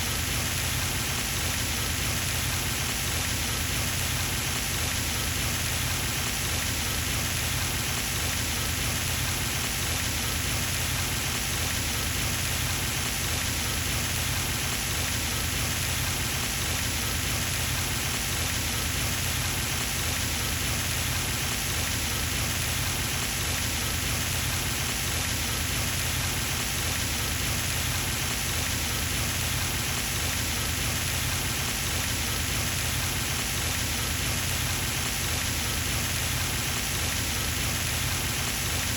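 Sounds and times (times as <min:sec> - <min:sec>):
fountain water splashing: 0:00.1 - 0:38.9.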